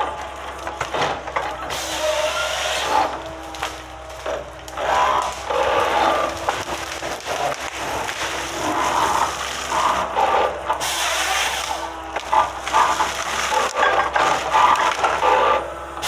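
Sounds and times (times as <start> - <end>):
branches crackling and snapping: 0.0 - 16.0
machine engine humming: 0.0 - 16.0.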